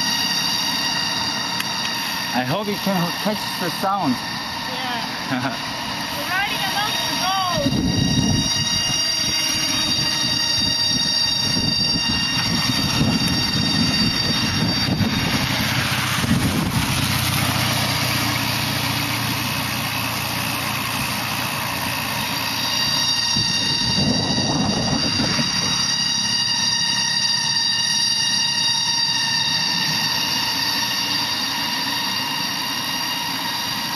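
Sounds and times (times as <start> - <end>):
cicadas whining: 0.0 - 33.9.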